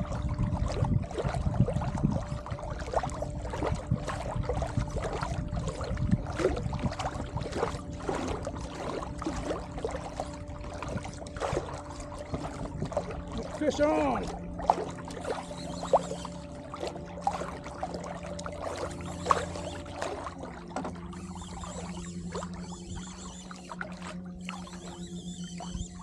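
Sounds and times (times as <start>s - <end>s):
faint steady hum: 0.0s - 26.0s
water splashing against kayak: 0.0s - 26.0s.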